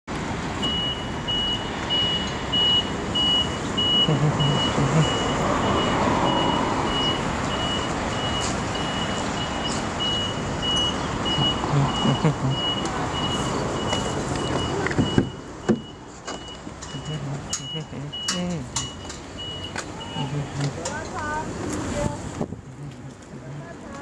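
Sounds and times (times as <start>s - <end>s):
rushing background noise: 0.1s - 24.0s
high-pitched electronic beeps: 0.6s - 20.4s.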